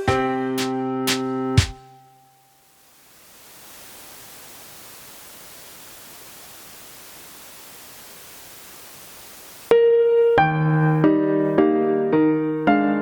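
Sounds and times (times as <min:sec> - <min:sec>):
steady line hiss: 0:00.0 - 0:11.0.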